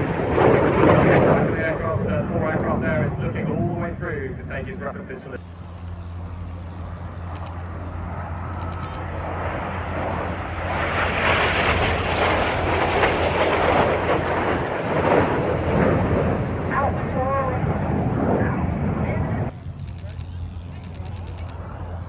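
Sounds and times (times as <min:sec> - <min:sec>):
jets flying past: 0:00.0 - 0:05.5, 0:06.4 - 0:19.6.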